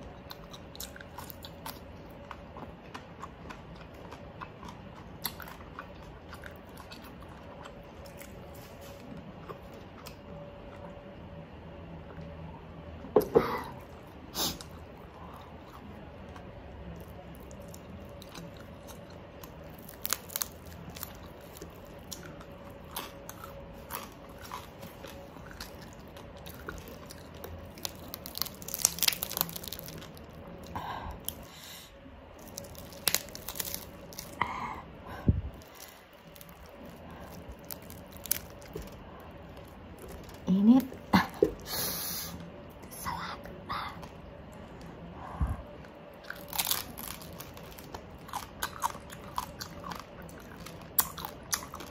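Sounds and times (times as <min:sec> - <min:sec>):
chewing crispy pork skin: 0:00.0 - 0:11.2, 0:11.8 - 0:34.7, 0:35.5 - 0:42.8, 0:43.5 - 0:51.9.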